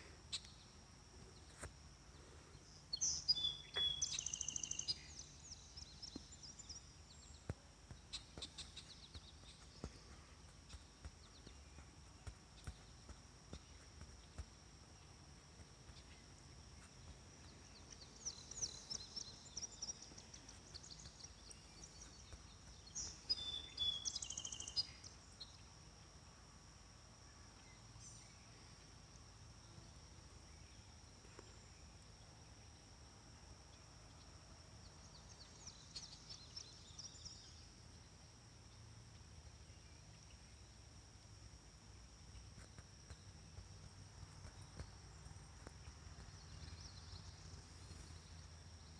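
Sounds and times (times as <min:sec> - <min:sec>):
high-pitched insect hum: 0:00.0 - 0:48.9.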